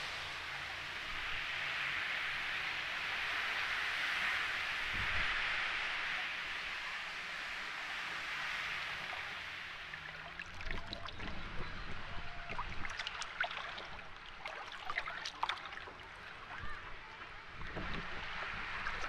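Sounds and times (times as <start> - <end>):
wind and surf rushing: 0.0 - 15.0, 15.7 - 19.0.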